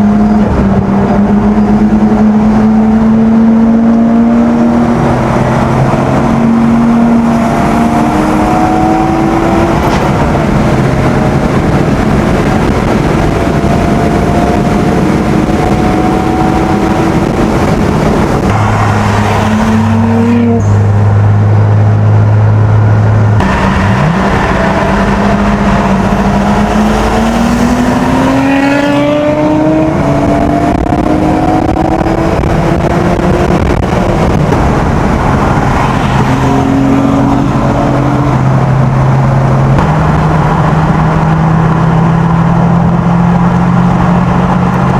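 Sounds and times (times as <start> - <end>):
car engine revving through gears: 0.0 - 44.9
steady low drone: 0.0 - 44.9.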